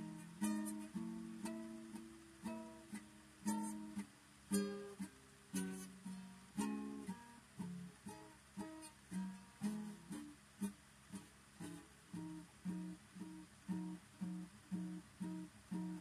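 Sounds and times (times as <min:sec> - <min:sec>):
solo guitar swing instrumental: 0:00.0 - 0:16.0.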